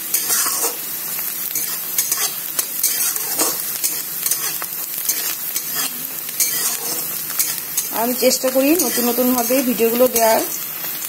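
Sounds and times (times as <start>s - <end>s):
pan stirring strokes: 0.0s - 0.9s, 1.5s - 10.7s
onion sizzling in a pan: 0.0s - 11.0s.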